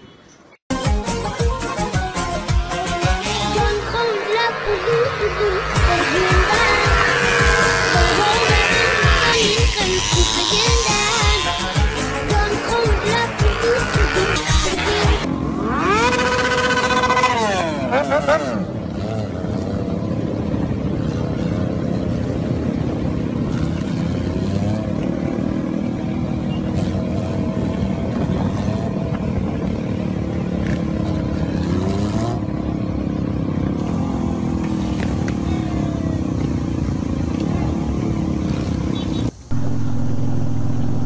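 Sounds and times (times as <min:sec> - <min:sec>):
motorcycle engine at road speed: 0:02.1 - 0:41.0
sport bike engine revving: 0:02.8 - 0:41.0.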